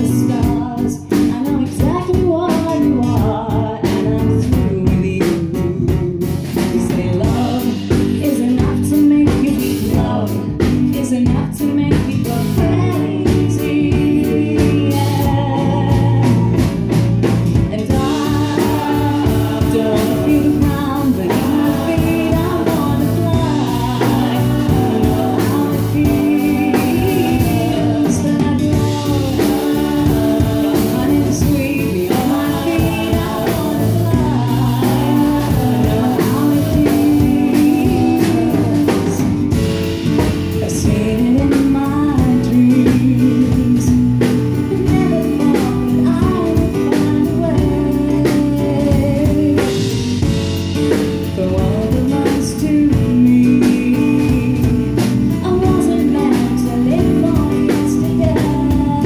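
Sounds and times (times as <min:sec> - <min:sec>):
bass guitar: 0:00.0 - 0:59.0
drums: 0:00.0 - 0:59.0
woman singing pop ballad: 0:00.0 - 0:59.0.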